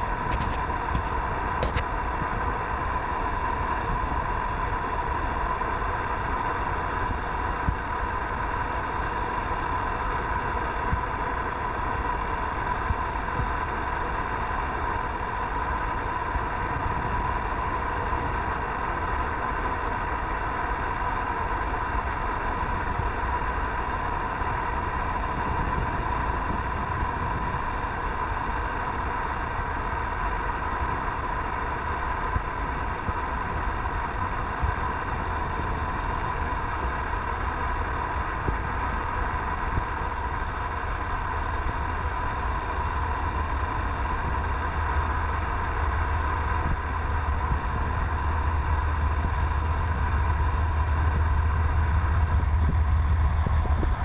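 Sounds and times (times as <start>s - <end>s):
distant diesel locomotive rumble: 0.0s - 54.0s.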